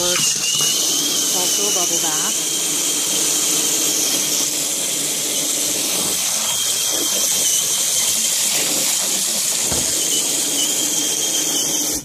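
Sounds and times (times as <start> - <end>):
tap water running into basin: 0.0 - 12.0.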